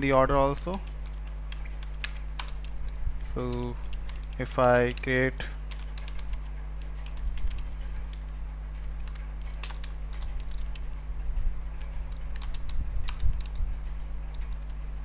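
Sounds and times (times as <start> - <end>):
steady low hum: 0.0 - 15.0
keyboard typing: 0.6 - 10.9, 11.8 - 13.6, 14.3 - 14.8.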